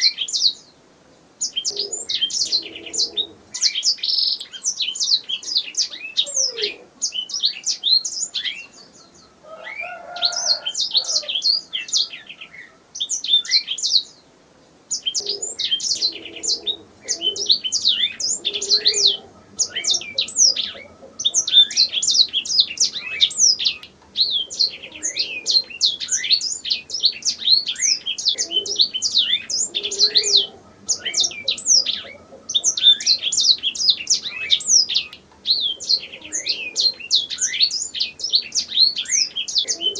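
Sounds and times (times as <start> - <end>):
canary singing trills: 0.0 - 0.8, 1.4 - 14.3, 14.9 - 39.9.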